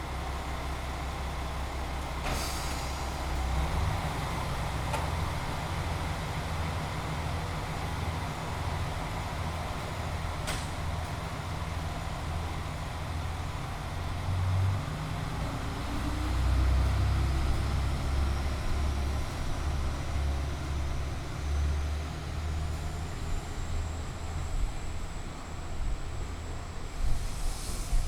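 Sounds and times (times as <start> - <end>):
train engines rumbling: 0.0 - 28.0.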